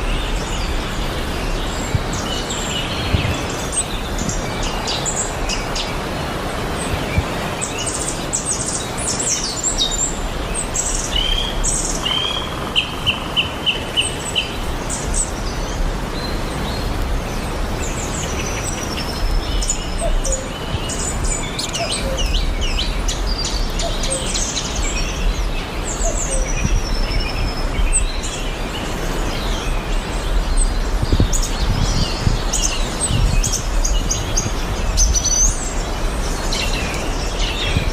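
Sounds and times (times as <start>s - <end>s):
background hiss: 0.0s - 37.9s.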